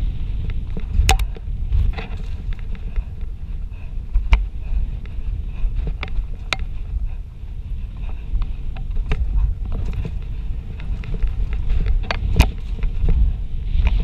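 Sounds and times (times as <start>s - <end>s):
bike clicking and rattling: 0.0s - 14.0s
wind buffeting microphone: 0.0s - 14.0s.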